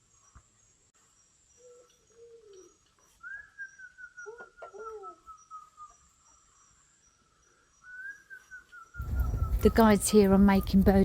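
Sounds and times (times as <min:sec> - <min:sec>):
low arching bird notes: 0:01.5 - 0:11.0.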